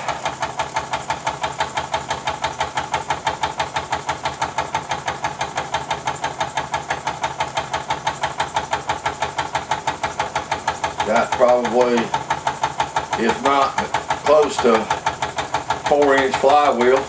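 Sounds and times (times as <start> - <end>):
model steam engine chuffing: 0.0 - 17.0.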